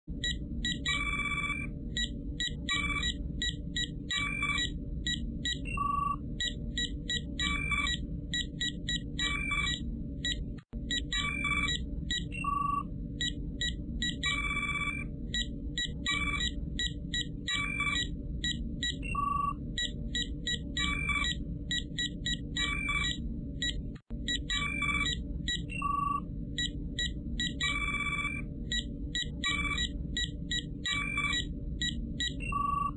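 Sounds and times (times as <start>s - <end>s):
steady low hum: 0.1s - 32.9s
electronic beeps and chirps: 0.2s - 32.9s.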